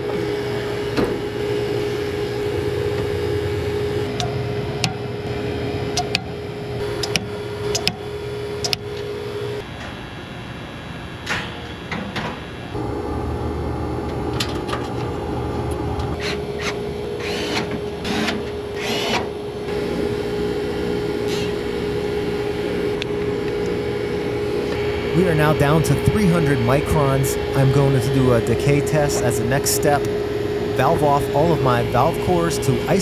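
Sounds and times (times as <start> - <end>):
vacuum pump humming: 0.0 - 9.6, 12.8 - 33.0.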